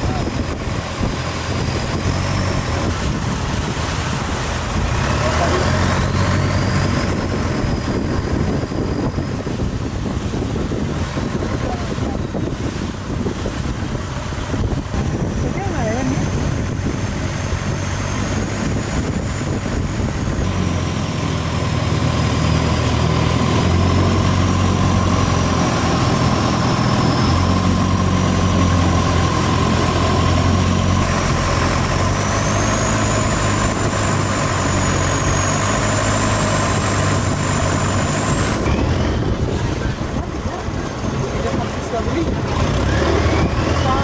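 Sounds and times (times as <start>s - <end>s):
motorboat engine drone: 0.0s - 44.0s.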